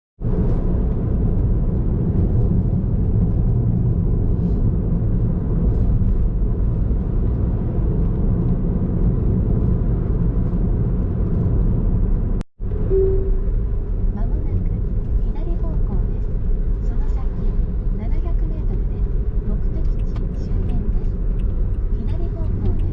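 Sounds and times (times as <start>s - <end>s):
car driving rumble: 0.2s - 22.9s.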